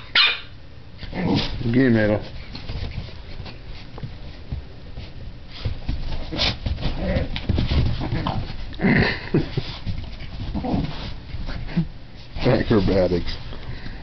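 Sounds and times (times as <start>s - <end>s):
paws scuffling on carpet: 1.0s - 14.0s.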